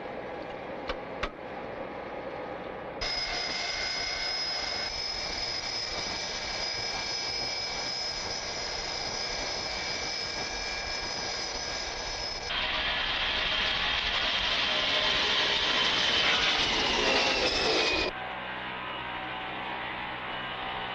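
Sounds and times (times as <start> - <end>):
high-pitched whining tones: 3.0 - 20.9
jet engines rushing: 3.0 - 20.9.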